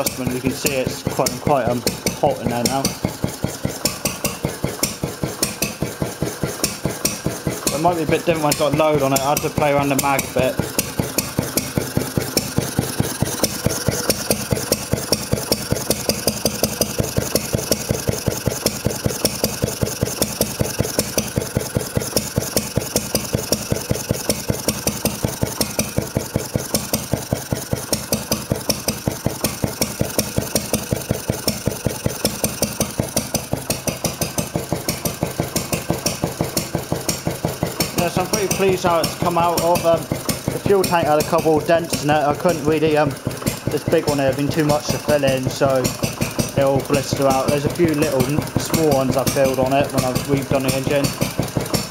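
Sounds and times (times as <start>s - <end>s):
stationary engine running: 0.0s - 51.9s.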